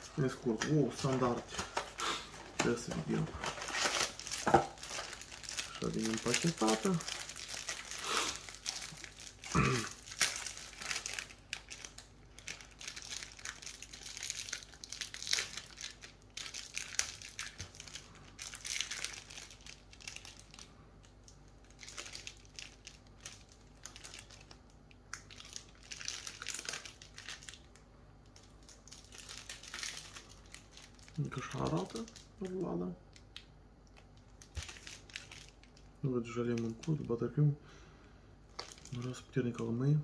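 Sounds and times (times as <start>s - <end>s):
plastic packaging crinkling: 0.0s - 37.3s, 38.5s - 39.8s.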